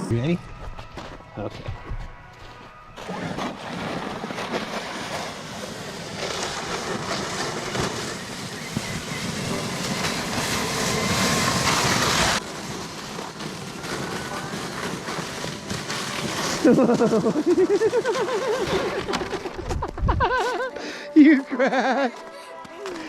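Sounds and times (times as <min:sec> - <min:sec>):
sled and tyres scraping on snow: 0:00.0 - 0:22.2.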